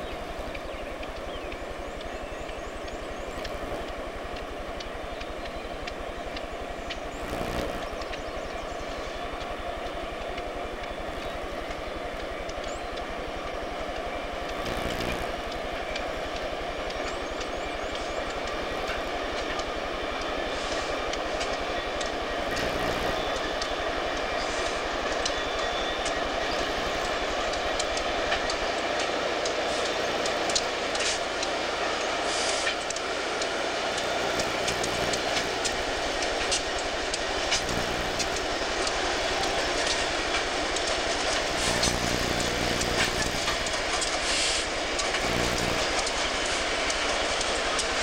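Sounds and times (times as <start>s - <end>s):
freight train rolling by: 0.0s - 48.0s.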